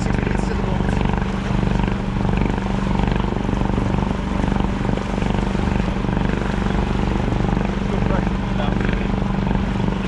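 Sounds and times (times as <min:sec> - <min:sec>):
boat engine droning: 0:00.0 - 0:10.0
hiss of wind and water: 0:00.0 - 0:10.0.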